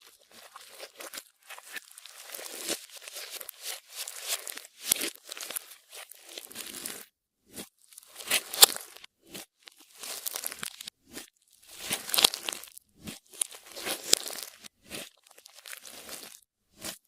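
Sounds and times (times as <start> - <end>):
slime squishing and crackling: 0.0 - 17.0.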